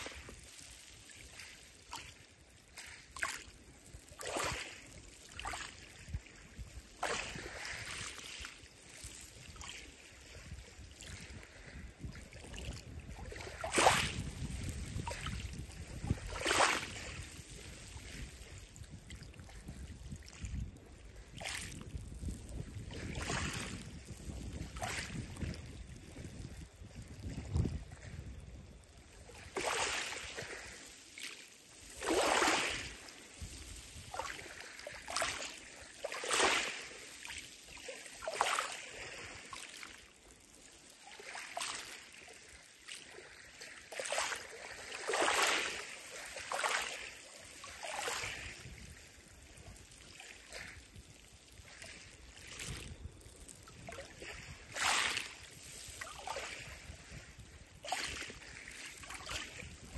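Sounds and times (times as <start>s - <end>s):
water lapping over pebbles: 0.0s - 59.9s.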